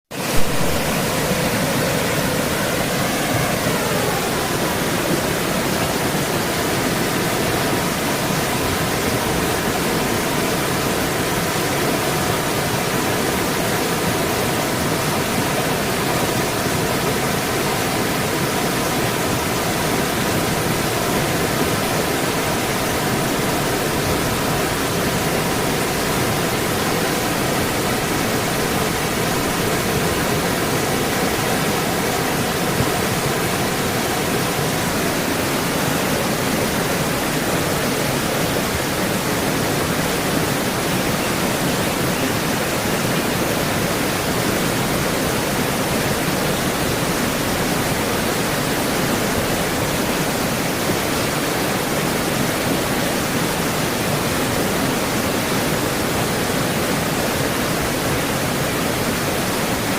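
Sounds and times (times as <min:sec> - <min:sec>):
creek water flowing: 0:00.1 - 0:59.9.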